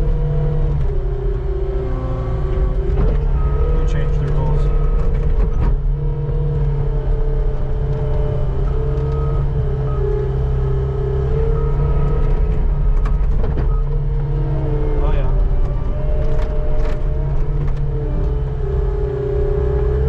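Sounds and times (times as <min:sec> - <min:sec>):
skid steer engine hum: 0:00.0 - 0:20.0.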